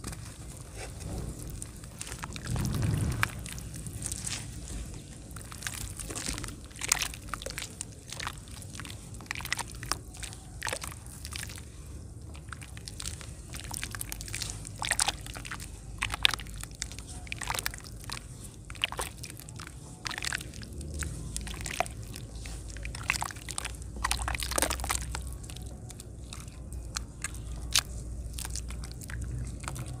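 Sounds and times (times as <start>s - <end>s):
dry clay crackling and crunching: 0.0s - 30.0s
mud slurry squishing and sloshing: 0.0s - 30.0s.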